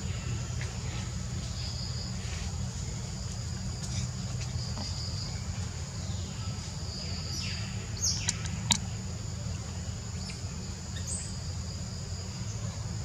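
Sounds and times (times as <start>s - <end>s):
insects buzzing: 0.0s - 13.0s
low steady rumble: 0.0s - 13.0s.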